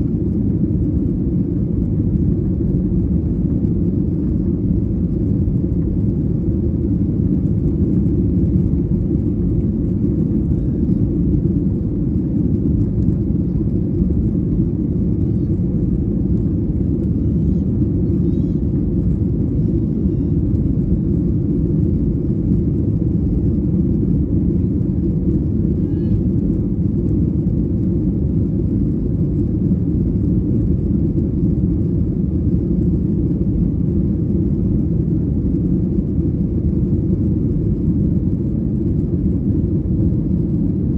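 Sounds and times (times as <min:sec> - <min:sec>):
airplane cabin rumble in flight: 0:00.0 - 0:40.9.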